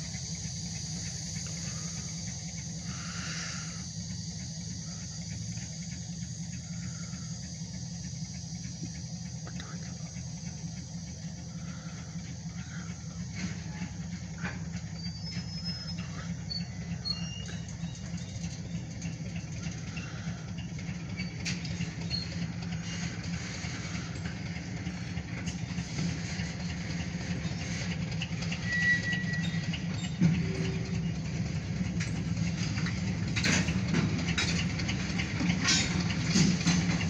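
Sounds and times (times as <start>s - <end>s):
freight train rumbling: 0.0s - 37.0s
train wheel clacks: 0.0s - 37.0s.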